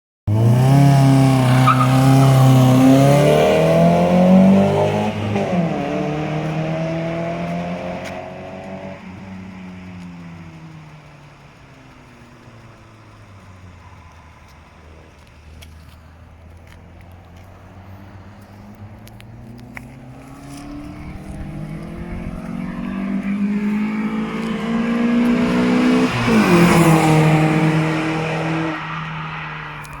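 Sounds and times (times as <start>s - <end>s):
car exhaust accelerating: 0.3s - 30.0s.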